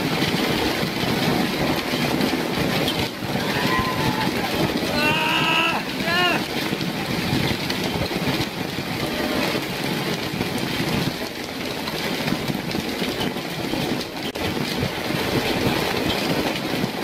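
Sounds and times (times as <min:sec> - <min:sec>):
hail rattling: 0:00.0 - 0:17.0.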